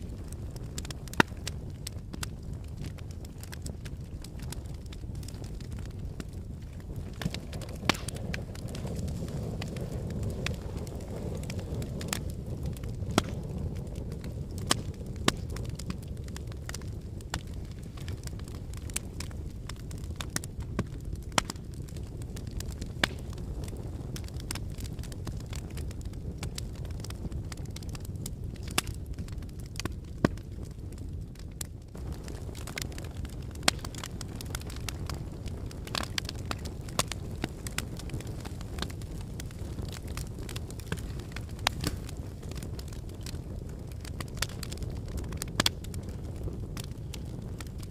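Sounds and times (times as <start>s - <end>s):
fire pops and crackles: 0.0s - 47.9s
fire rumbling: 0.0s - 47.9s.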